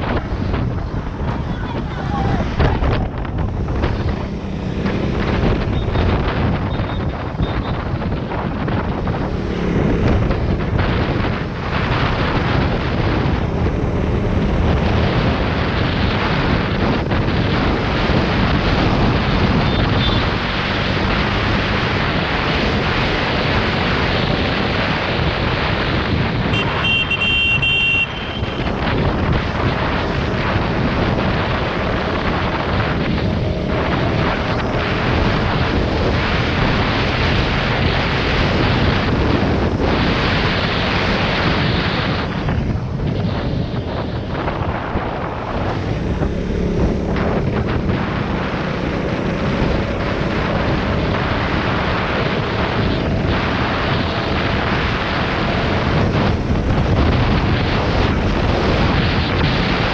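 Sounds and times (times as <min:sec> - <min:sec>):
wind buffeting microphone: 0:00.0 - 0:59.9
motorcycle engine running: 0:00.1 - 0:59.9.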